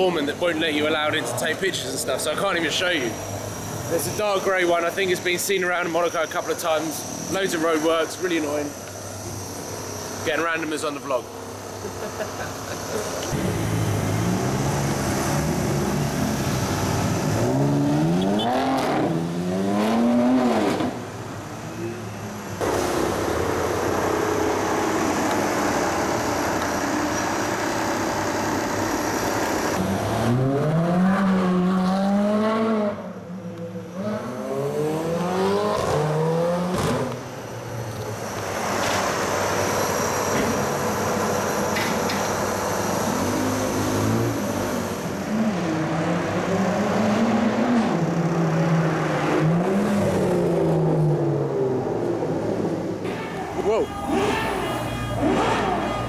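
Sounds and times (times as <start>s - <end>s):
sports car engines accelerating: 0.0s - 53.1s, 55.2s - 56.0s
traffic noise: 0.0s - 56.0s.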